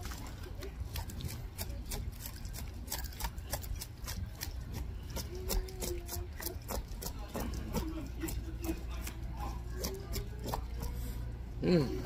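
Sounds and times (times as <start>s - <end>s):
knife scraping fish scales: 0.9s - 11.2s.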